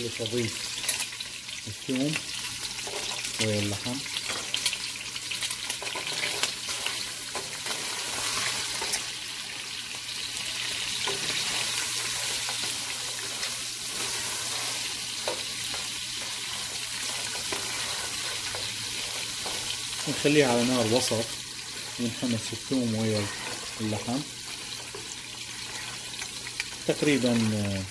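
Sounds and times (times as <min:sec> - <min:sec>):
meat sizzling in hot oil: 0:00.0 - 0:27.9.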